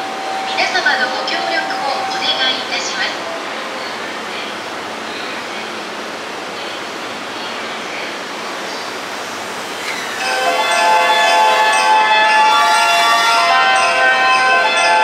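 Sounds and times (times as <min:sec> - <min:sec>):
train rushing noise: 0:00.0 - 0:15.0.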